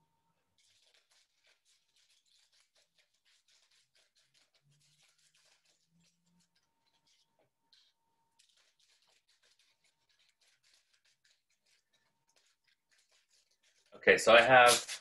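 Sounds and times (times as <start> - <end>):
paper rustling: 0.6 - 15.0
scissors snipping paper: 0.6 - 15.0.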